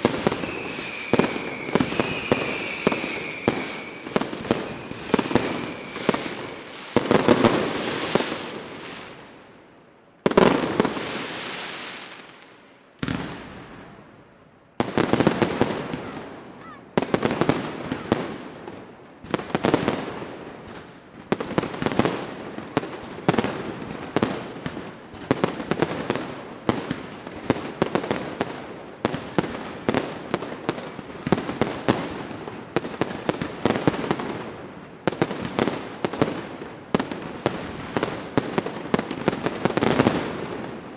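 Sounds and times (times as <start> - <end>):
fireworks bangs with crackle: 0.0 - 9.4, 10.2 - 14.2, 14.8 - 40.9.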